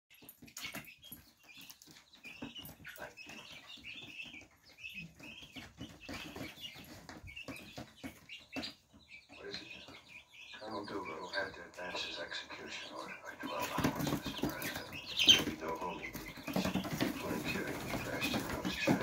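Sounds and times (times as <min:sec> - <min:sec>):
chicks peeping: 0:00.1 - 0:19.0.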